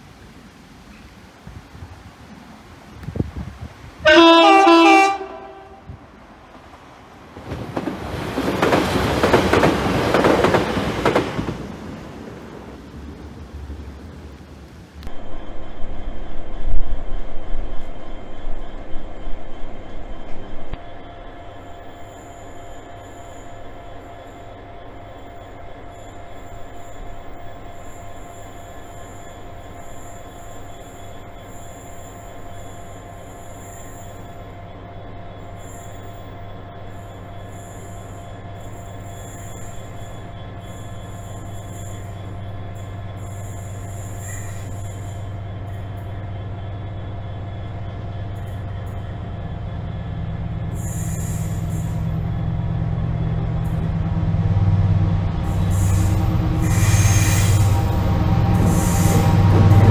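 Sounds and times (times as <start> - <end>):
diesel locomotive engine whine: 0.0 - 59.9.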